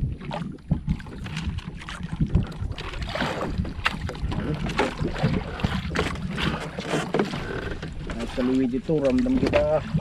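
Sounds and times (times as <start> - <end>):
low boat rumble: 0.0 - 10.0
wind on microphone: 0.0 - 10.0.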